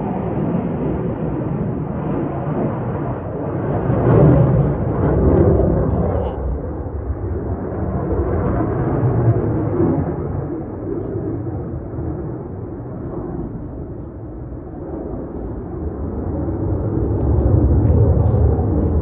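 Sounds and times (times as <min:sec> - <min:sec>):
jet rumble: 0:00.0 - 0:19.0.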